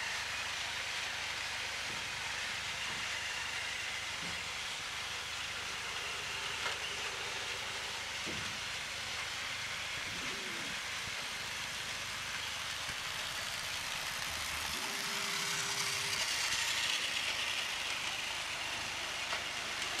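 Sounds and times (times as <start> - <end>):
toy trains whirring on track: 0.0 - 20.0.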